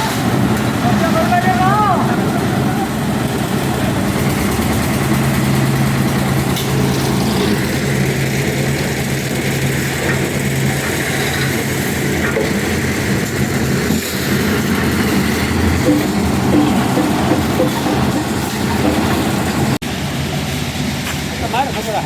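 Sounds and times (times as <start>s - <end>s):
concrete mixer engine running: 0.0s - 22.0s.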